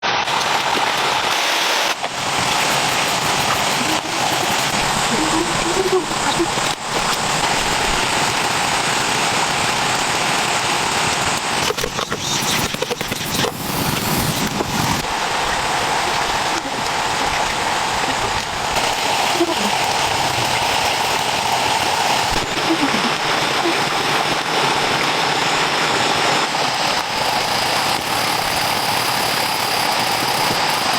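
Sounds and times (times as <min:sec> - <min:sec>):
steady rain falling: 0:00.0 - 0:11.9, 0:13.5 - 0:30.9.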